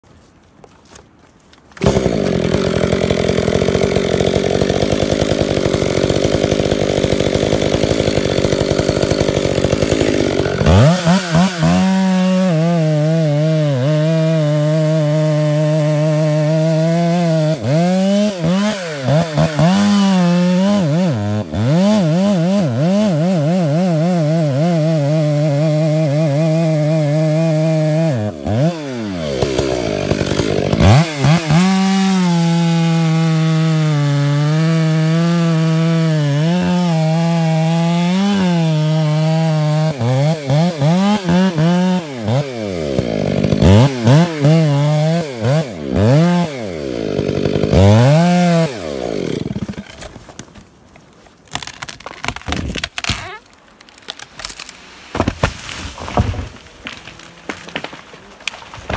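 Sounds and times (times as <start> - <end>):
chainsaw cutting wood: 0.9 - 58.9.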